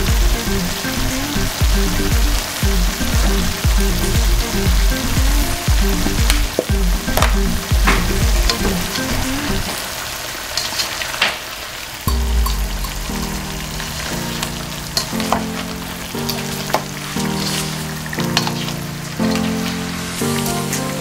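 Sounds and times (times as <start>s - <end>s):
background music with steady beat: 0.0s - 9.7s, 12.1s - 21.0s
meat sizzling in a pot: 0.0s - 21.0s.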